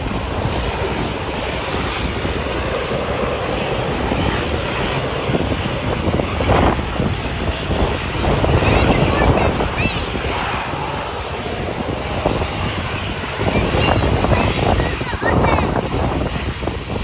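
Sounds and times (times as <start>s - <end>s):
airplane engines running: 0.0s - 17.0s.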